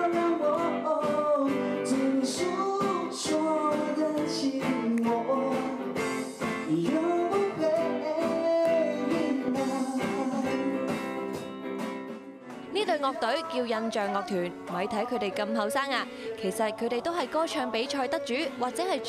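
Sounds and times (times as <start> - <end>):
person singing: 0.0 - 11.4, 12.6 - 19.0
electric guitar: 0.0 - 16.8.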